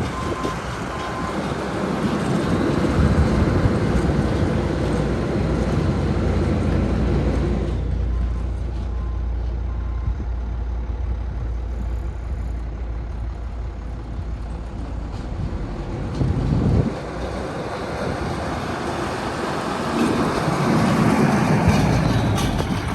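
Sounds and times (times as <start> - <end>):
truck diesel engine running: 0.0 - 22.9.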